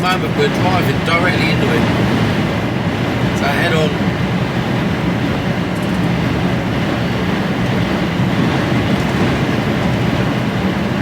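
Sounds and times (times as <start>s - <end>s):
storm wind buffeting cab: 0.0s - 11.0s
truck engine humming: 0.0s - 11.0s.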